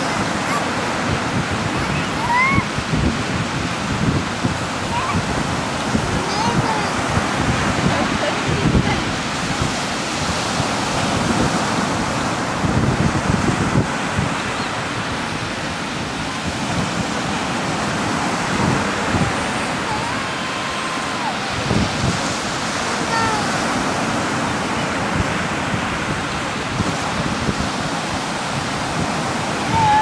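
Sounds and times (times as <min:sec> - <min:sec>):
ocean waves breaking: 0:00.0 - 0:30.0
wind gusting on microphone: 0:00.0 - 0:30.0.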